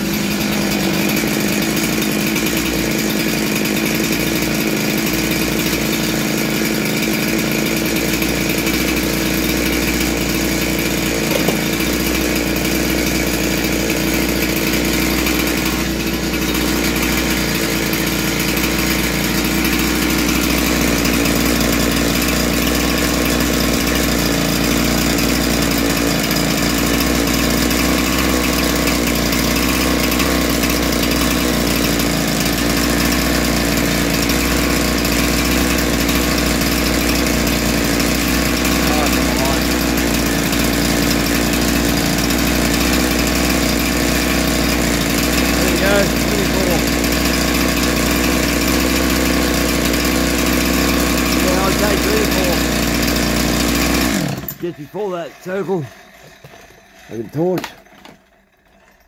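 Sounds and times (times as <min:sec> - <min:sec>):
chainsaw engine idling: 0:00.0 - 0:59.0.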